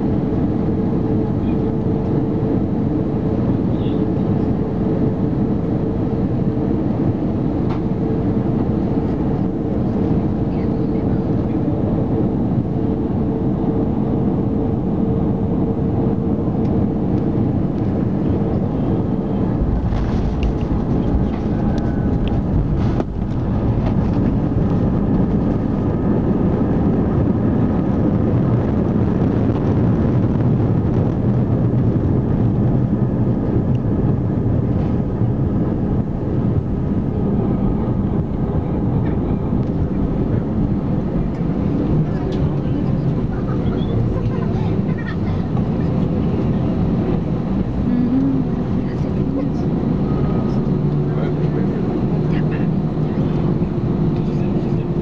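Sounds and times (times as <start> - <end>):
jet engines and airflow in cabin: 0.0 - 55.0.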